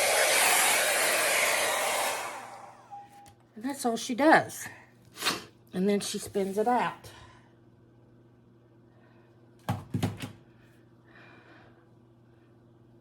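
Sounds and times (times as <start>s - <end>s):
low electrical hum: 2.2s - 13.0s.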